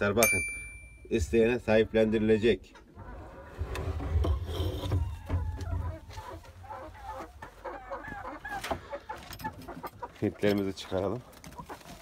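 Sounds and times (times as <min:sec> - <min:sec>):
chickens clucking: 0:01.4 - 0:12.0.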